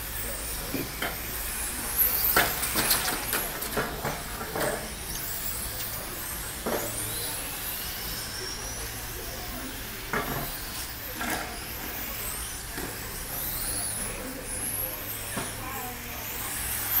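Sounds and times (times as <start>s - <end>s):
thin high whines gliding upward: 0.0s - 17.0s.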